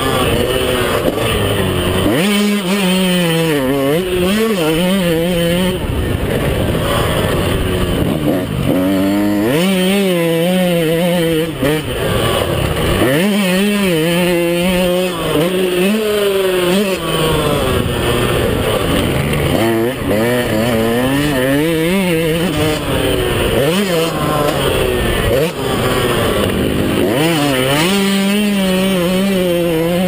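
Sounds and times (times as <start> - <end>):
motocross engine revving: 0.0 - 30.0.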